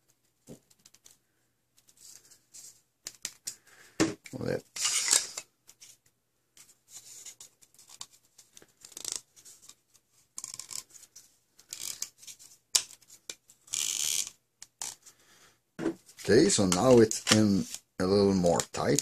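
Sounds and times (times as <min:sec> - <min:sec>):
plastic parts scraping and rubbing: 0:01.8 - 0:15.1, 0:16.0 - 0:19.0.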